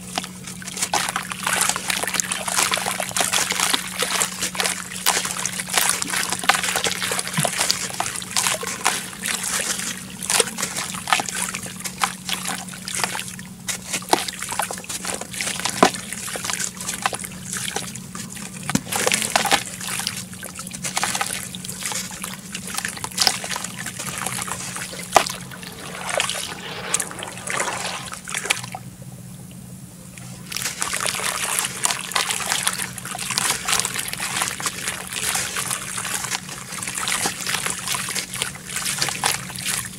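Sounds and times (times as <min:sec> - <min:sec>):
wet dirt clumps splashing: 0:00.0 - 0:28.8, 0:30.3 - 0:39.9
water trickling and sloshing: 0:00.0 - 0:39.9.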